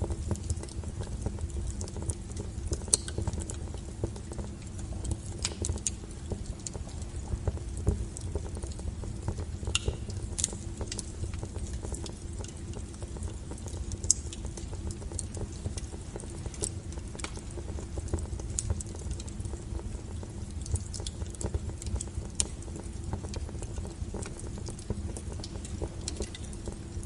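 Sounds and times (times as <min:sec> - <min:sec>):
firewood crackling and popping: 0:00.0 - 0:27.0
low rumble of flames: 0:00.0 - 0:27.0.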